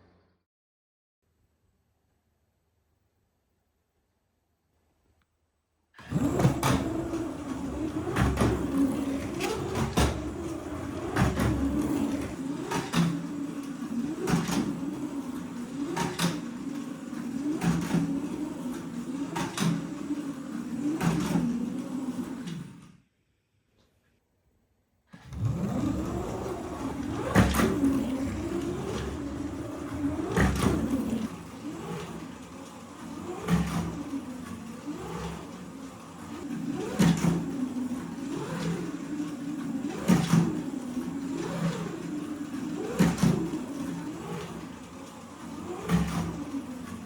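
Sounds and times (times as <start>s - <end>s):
slot car motor whining: 6.0s - 22.9s, 25.2s - 47.0s.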